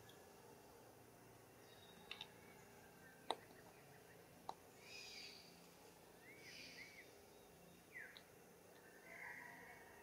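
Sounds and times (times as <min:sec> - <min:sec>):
faint forest ambience: 0:00.0 - 0:10.0.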